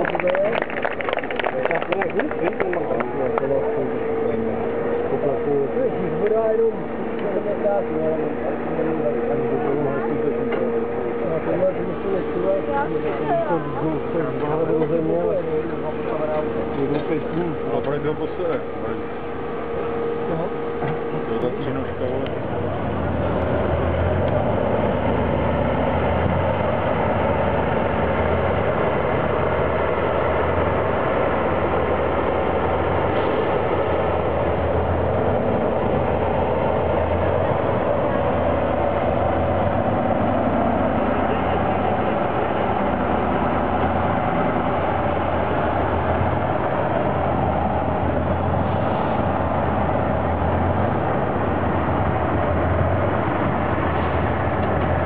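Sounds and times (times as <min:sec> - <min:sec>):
truck engine running at low revs: 0:00.0 - 0:55.0.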